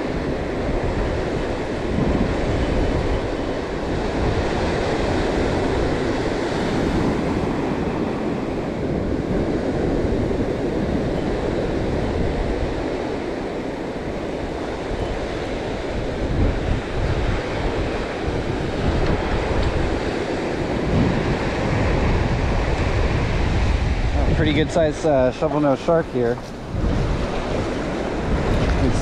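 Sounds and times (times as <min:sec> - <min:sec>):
small waves breaking on beach: 0:00.0 - 0:29.0
wind buffeting microphone: 0:00.0 - 0:29.0.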